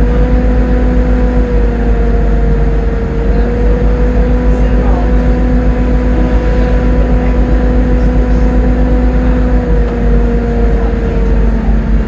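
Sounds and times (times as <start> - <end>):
bus driveline whine: 0.0 - 12.0
bus engine rumble: 0.0 - 12.0.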